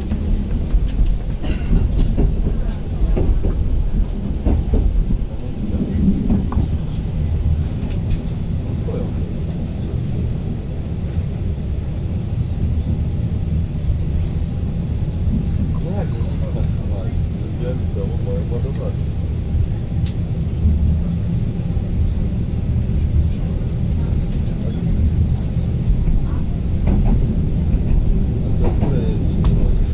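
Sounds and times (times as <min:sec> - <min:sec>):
electric train rumble: 0:00.0 - 0:29.9.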